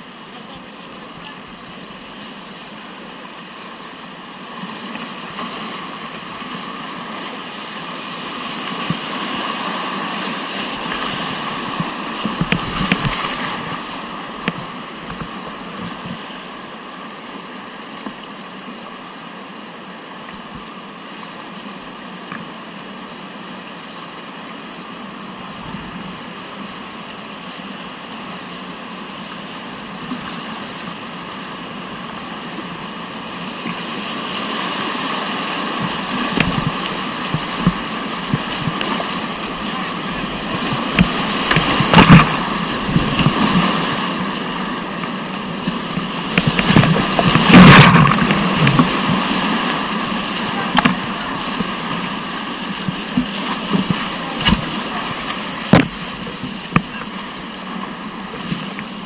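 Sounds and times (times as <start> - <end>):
water splashing: 0.0 - 17.1, 24.3 - 59.0
river rapid rushing: 0.0 - 59.0.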